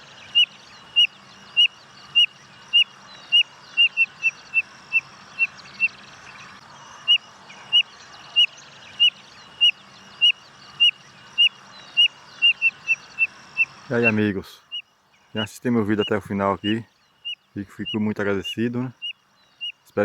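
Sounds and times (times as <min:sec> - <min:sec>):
faint chirping of birds: 0:00.0 - 0:20.0.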